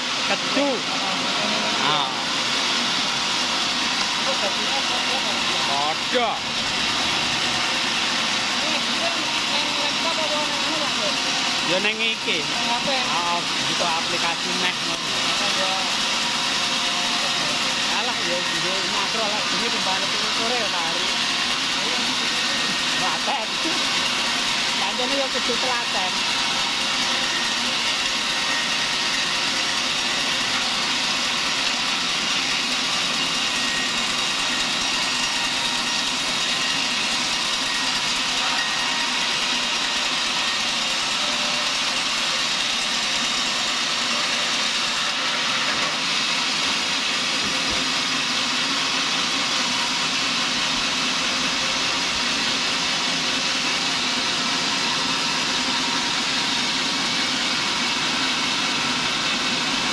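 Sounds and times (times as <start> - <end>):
saw blade cutting log: 0.0 - 59.9
sawmill machine drone: 0.0 - 59.9.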